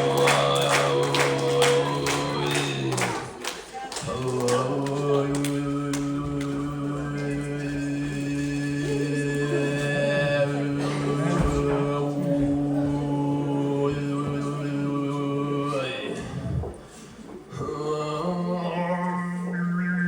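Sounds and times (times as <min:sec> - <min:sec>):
man throat singing drone: 0:00.0 - 0:03.4, 0:04.0 - 0:16.7, 0:17.5 - 0:20.0.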